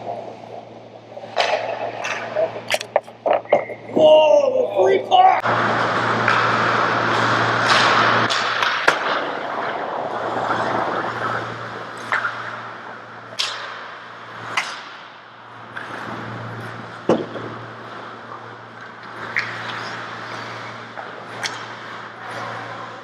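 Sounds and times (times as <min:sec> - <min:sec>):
steady low hum: 0:00.0 - 0:23.0
hockey sticks and puck clacking: 0:01.2 - 0:03.8, 0:05.8 - 0:17.6, 0:18.3 - 0:22.8.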